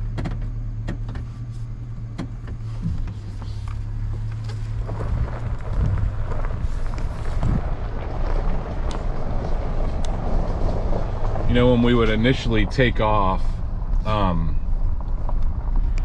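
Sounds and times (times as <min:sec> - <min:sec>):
pickup truck engine: 0:00.0 - 0:16.0
tyres crunching on gravel: 0:00.0 - 0:16.0.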